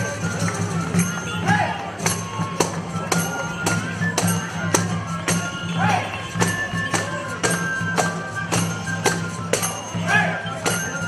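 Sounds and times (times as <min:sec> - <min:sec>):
flutes playing a tune: 0:00.0 - 0:11.0
drum beat: 0:00.6 - 0:11.0.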